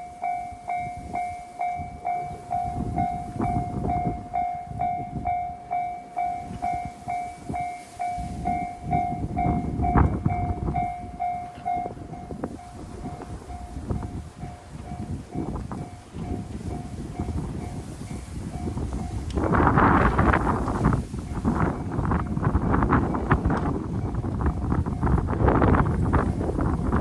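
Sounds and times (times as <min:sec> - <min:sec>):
diesel railcar rumbling past: 0:00.0 - 0:27.0
level-crossing warning bell: 0:00.0 - 0:27.0.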